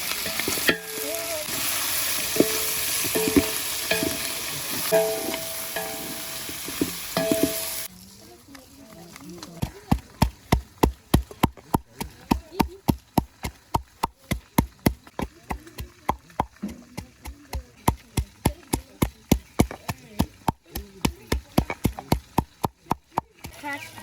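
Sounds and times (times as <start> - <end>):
garlic being pounded: 2.2 - 7.9, 9.6 - 24.0.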